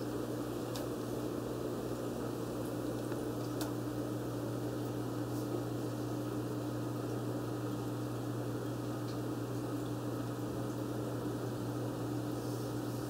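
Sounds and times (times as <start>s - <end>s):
aquarium filter motor hum: 0.0s - 13.0s.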